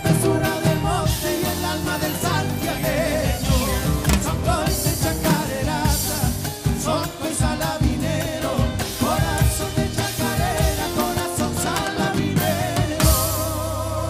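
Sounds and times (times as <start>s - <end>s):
song with singer and drums: 0.0s - 14.0s.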